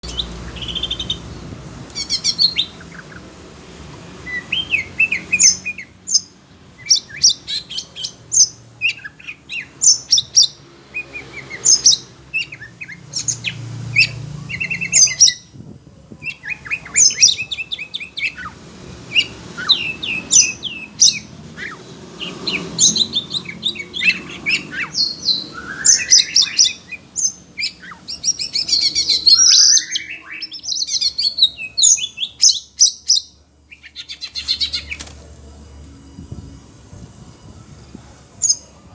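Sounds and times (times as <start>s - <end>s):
bird singing chirps and whistles: 0.0s - 1.4s, 4.3s - 15.5s, 16.2s - 35.1s.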